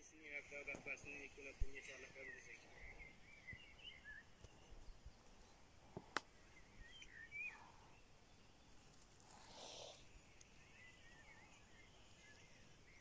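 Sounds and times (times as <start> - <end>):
faint bird song warbling: 0.0 - 13.0.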